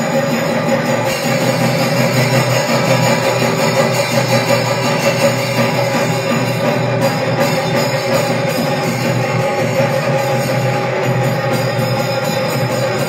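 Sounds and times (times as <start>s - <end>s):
drumming: 0.0s - 13.0s
instrumental temple music: 0.0s - 13.0s.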